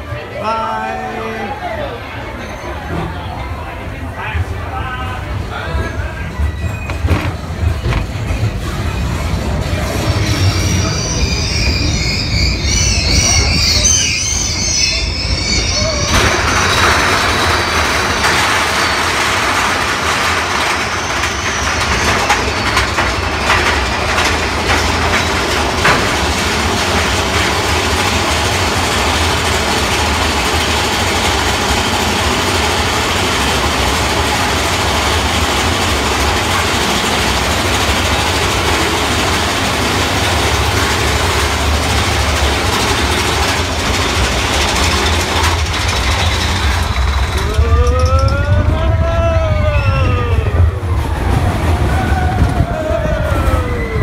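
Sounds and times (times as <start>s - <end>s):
roller coaster rumble and clatter: 0.0s - 54.0s
sharp clacks of coaster track: 4.2s - 54.0s.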